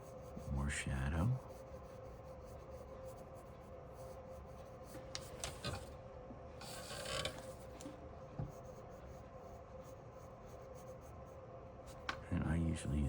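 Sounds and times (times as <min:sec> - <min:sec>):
pencil scratching on paper: 0:00.0 - 0:05.9, 0:06.6 - 0:12.9
faint steady hum: 0:00.0 - 0:13.0.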